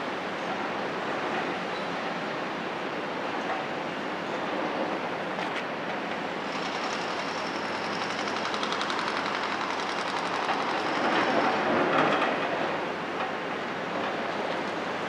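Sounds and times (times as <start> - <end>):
diesel engines and hydraulics: 0.0 - 15.0.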